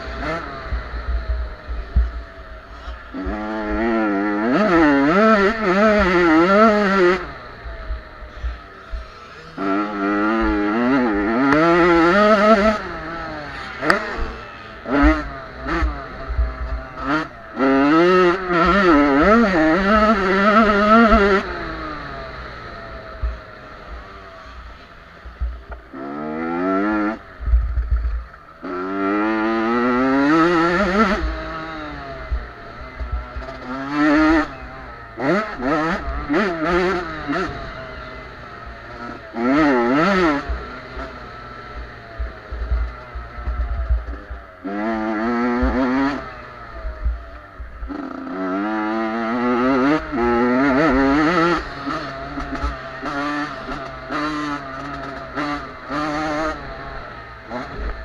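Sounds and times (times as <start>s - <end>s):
motocross bikes racing: 0.0s - 58.0s.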